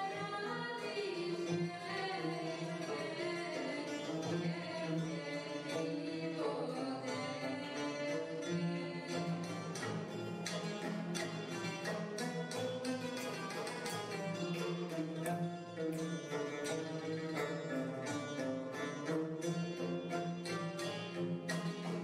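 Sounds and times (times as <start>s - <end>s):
string instrument melodies: 0.0s - 22.0s.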